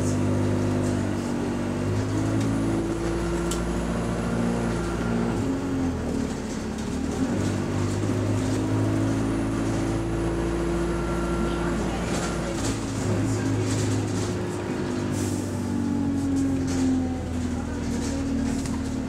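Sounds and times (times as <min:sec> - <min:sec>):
bus diesel engine running: 0:00.0 - 0:19.0
road noise: 0:00.0 - 0:19.0.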